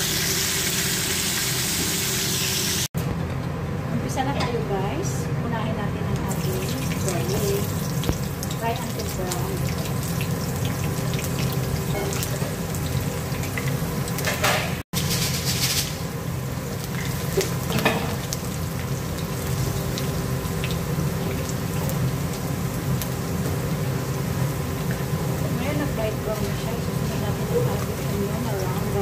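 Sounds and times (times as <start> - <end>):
garlic sizzling in oil: 0.0 - 2.9, 6.3 - 14.4, 15.0 - 29.0.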